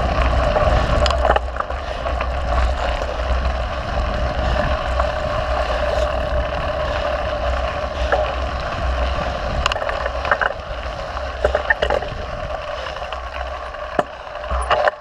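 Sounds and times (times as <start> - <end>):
bike clicks and rattles: 0.0 - 15.0
wind and tyre noise: 0.0 - 15.0.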